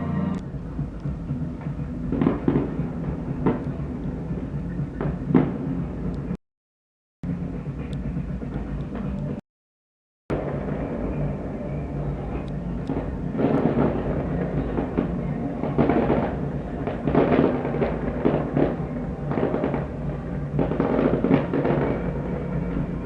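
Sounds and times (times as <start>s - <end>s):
music playing: 0.0s - 6.4s, 7.2s - 9.4s, 10.3s - 23.0s.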